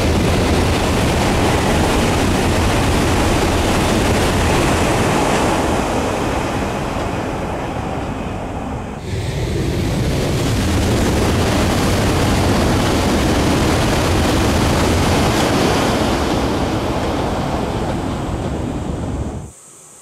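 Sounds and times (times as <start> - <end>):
high-speed train passing: 0.0 - 20.0.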